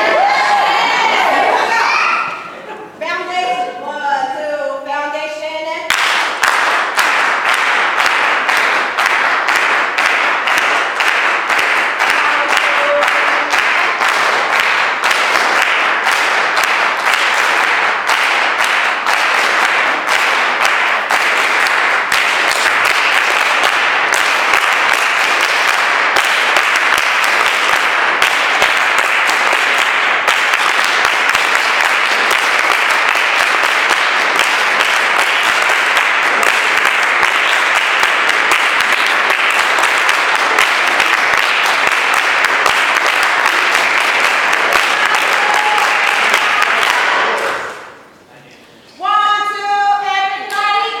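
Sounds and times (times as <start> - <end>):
large audience clapping: 0.0 - 2.4, 5.9 - 48.2.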